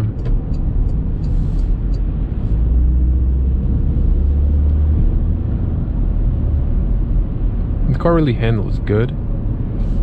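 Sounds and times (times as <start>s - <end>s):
deep hum: 0.0s - 8.2s
car engine and road rumble: 0.0s - 10.0s.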